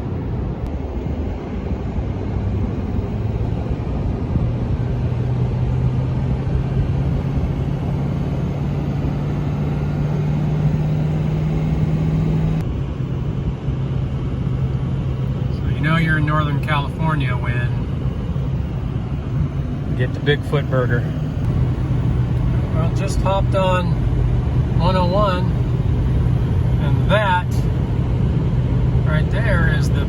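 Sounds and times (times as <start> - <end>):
low engine hum: 0.0 - 30.0
road noise: 0.0 - 30.0.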